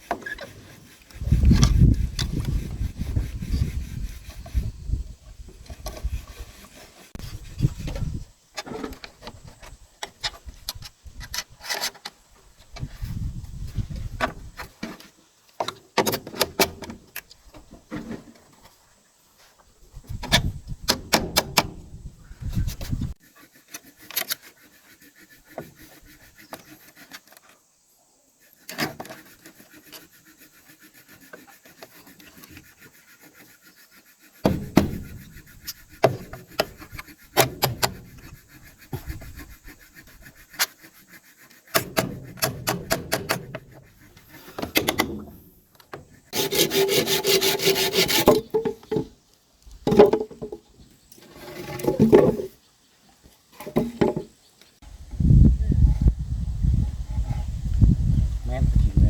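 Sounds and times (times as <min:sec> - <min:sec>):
hand saw sawing wood: 0:00.0 - 0:18.8, 0:19.4 - 0:27.7, 0:28.4 - 0:49.1, 0:51.2 - 0:52.6
wood scraping: 0:00.0 - 0:27.7, 0:28.4 - 0:52.6.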